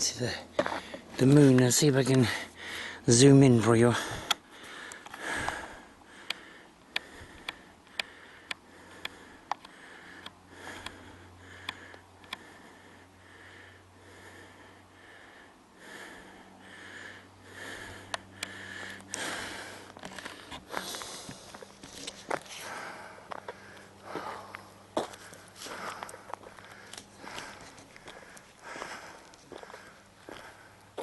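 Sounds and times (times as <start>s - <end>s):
breathing and sniffing: 2.3s - 3.0s, 4.0s - 31.0s.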